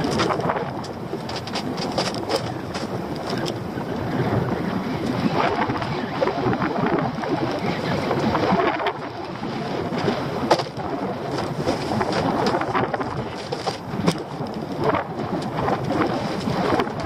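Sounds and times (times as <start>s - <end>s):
water lapping against boat: 0.0s - 17.0s
wind buffeting microphone: 0.0s - 17.0s.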